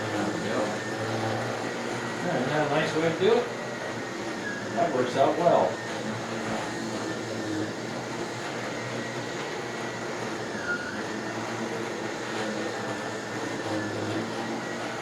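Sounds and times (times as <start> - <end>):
vacuum cleaner whirring: 0.0 - 15.0.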